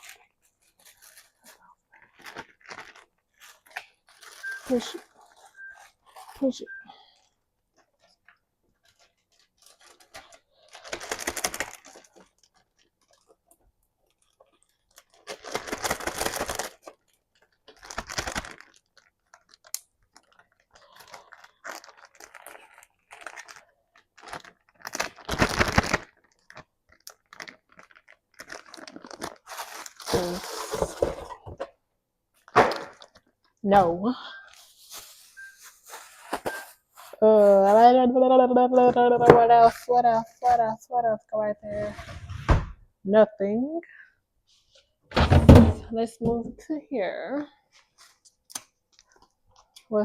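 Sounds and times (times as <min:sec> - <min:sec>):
plastic bags rustling: 0:00.0 - 0:31.7, 0:32.4 - 0:40.8.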